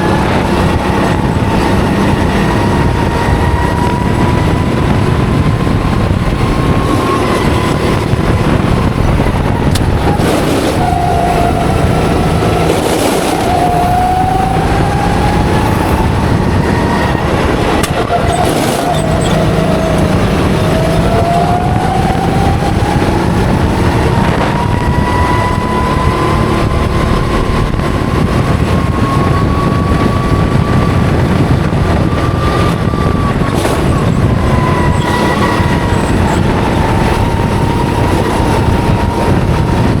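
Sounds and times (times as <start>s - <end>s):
go-kart engine running hard: 0.0s - 40.0s
wind rushing: 0.0s - 40.0s.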